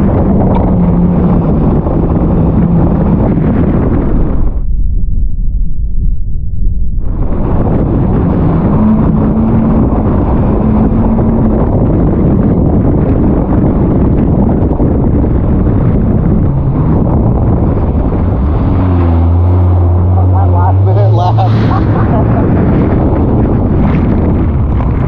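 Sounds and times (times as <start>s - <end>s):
jet ski engine: 0.0s - 4.5s, 7.1s - 25.0s
wind buffeting microphone: 0.0s - 25.0s.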